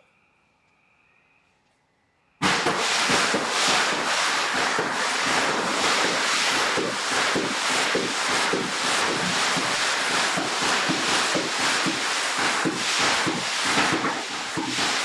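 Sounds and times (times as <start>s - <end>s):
firework hissing and crackling: 2.4s - 15.0s.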